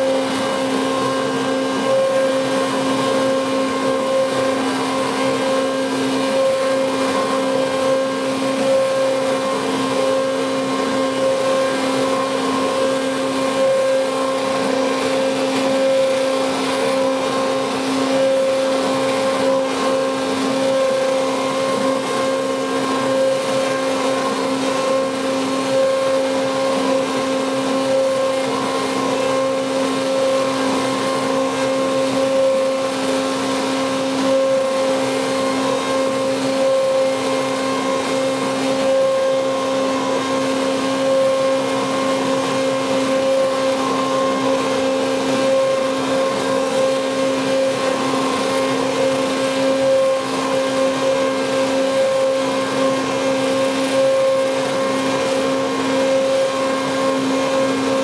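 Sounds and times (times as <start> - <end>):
stick blender motor humming: 0.0 - 58.0.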